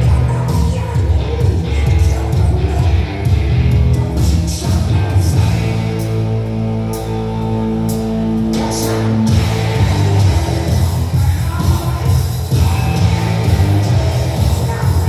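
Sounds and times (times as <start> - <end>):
rock music over loudspeakers: 0.0 - 15.0.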